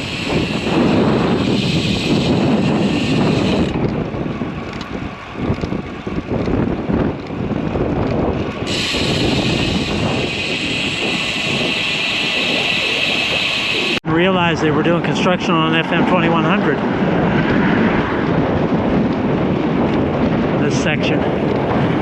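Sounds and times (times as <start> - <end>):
bicycle tyre and road noise: 0.0 - 22.0
wind buffeting microphone: 0.0 - 22.0.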